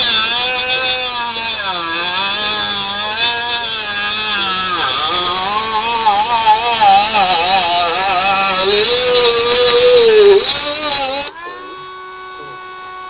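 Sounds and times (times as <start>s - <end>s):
milling machine cutting wood: 0.0s - 13.0s.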